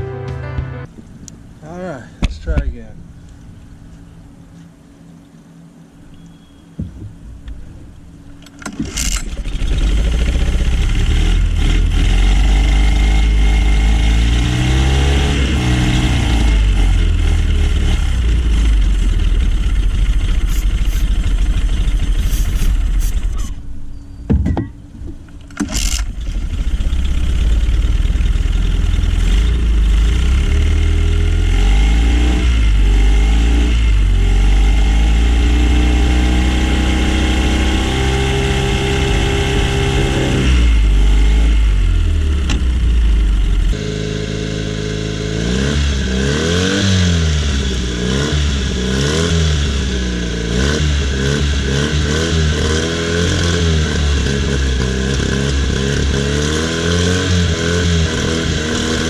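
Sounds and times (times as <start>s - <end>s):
outboard motor running and revving: 8.9s - 23.2s, 25.6s - 59.0s.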